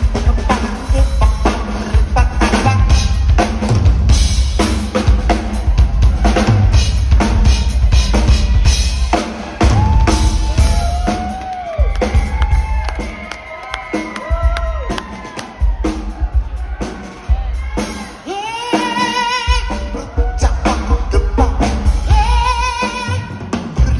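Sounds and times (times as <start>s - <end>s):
rock drum solo: 0.0s - 23.9s.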